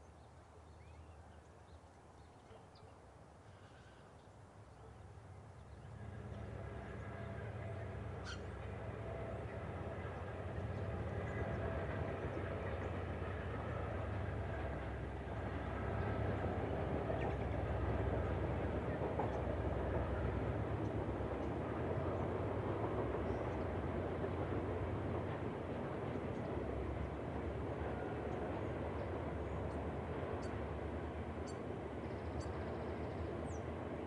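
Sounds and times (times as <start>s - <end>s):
diesel locomotive engine hum: 5.2s - 34.0s.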